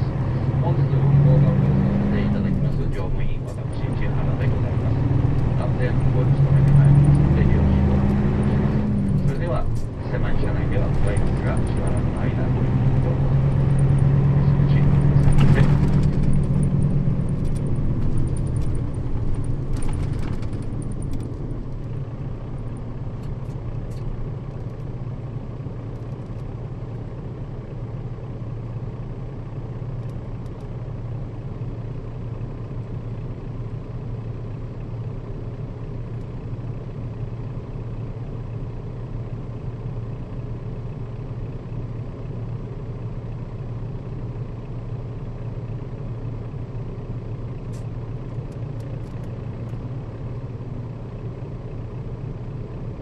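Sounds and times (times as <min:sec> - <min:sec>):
bus diesel engine humming: 0:00.0 - 0:53.0
road rumble: 0:00.0 - 0:53.0.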